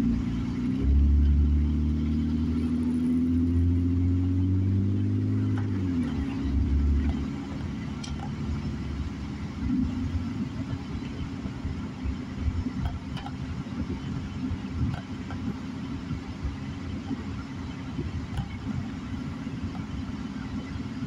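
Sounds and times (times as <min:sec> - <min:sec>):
car engine from inside cabin: 0:00.0 - 0:21.0
tyres on wet road: 0:00.0 - 0:21.0.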